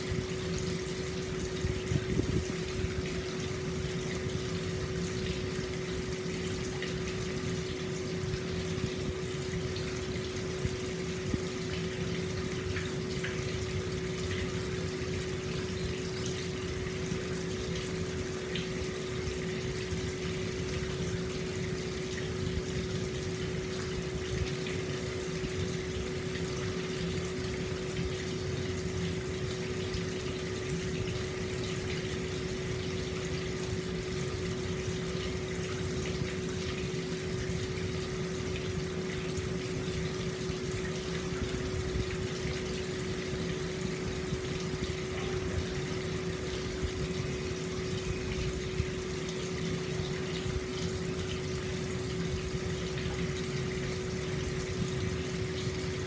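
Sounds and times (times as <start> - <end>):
steady low hum: 0.0 - 55.9
water flowing into bath: 0.0 - 56.0.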